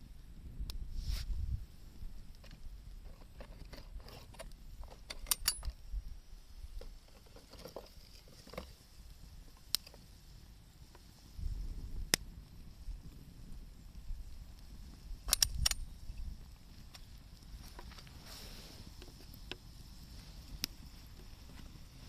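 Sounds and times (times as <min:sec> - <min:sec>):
low fire rumble: 0:00.0 - 0:22.0
campfire crackling and popping: 0:00.1 - 0:22.0.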